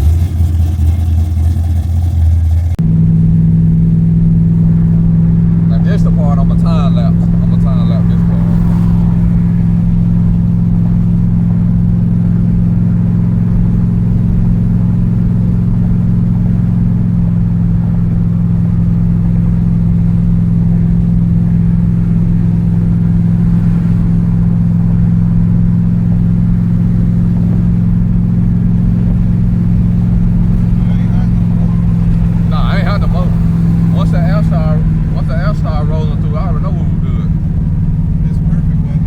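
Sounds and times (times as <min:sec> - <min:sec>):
loud deep engine drone: 0:00.0 - 0:39.0.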